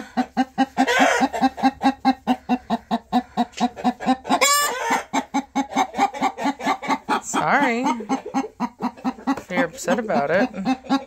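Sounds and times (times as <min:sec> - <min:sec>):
hen clucking: 0:00.0 - 0:11.0.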